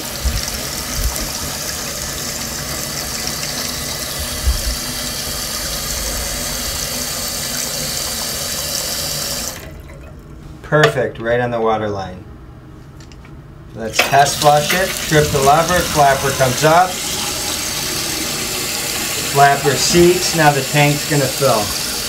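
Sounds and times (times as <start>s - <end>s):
water filling toilet tank: 0.0s - 10.4s, 14.0s - 22.0s.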